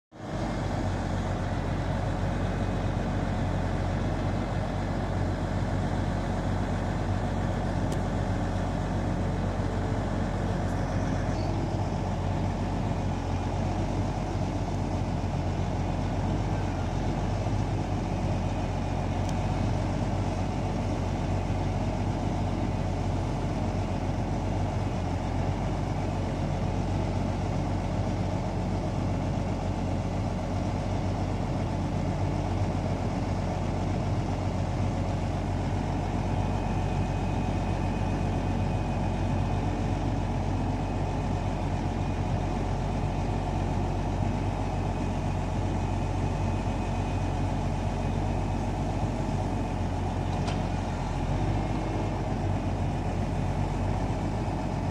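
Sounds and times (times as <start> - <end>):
diesel engine idling: 0.2 - 54.9.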